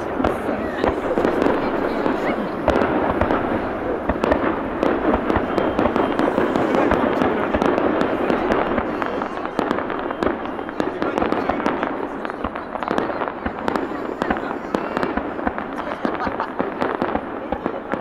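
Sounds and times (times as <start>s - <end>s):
fireworks popping rapidly: 0.0s - 18.0s.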